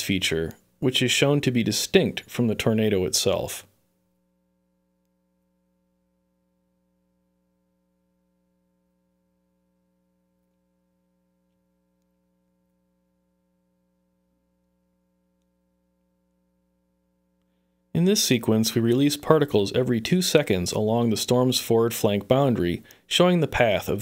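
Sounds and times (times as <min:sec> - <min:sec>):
faint electrical hum: 0:00.0 - 0:24.0.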